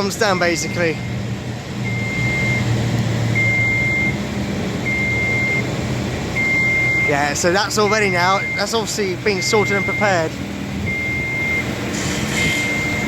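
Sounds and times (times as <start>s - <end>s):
machinery warning beeper: 0.0s - 1.2s, 1.8s - 4.2s, 4.8s - 5.7s, 6.4s - 11.8s, 12.4s - 13.0s
diesel engine droning: 0.0s - 13.0s.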